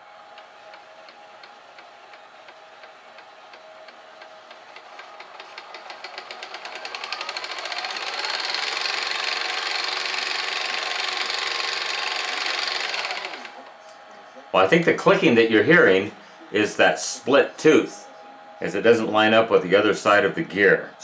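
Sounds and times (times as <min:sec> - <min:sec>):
tape transport fast-forwarding: 0:00.0 - 0:17.9.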